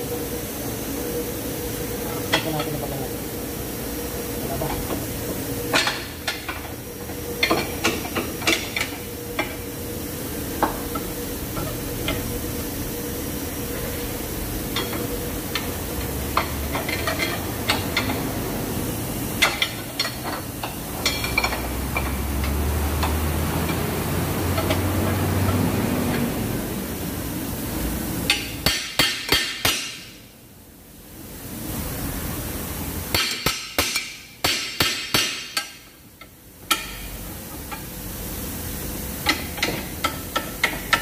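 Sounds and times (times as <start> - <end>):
workshop hum: 0.0 - 41.0.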